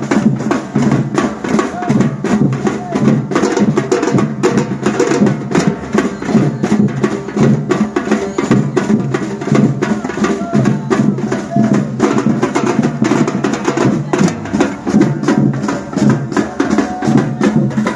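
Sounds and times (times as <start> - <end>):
percussion band drumming: 0.0 - 17.9.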